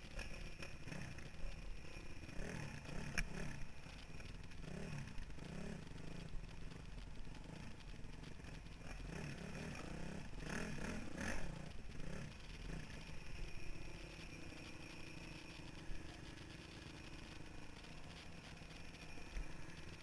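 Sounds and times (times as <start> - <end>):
dirt bike engine revving: 0.1 - 6.3, 7.4 - 17.5.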